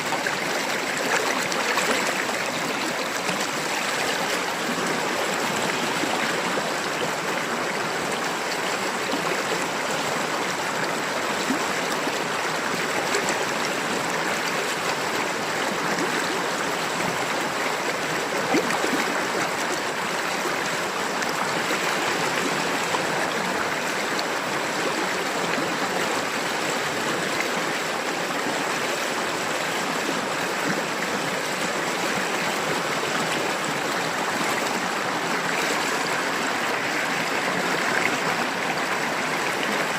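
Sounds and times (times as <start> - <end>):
river water splashing over rocks: 0.0 - 39.9.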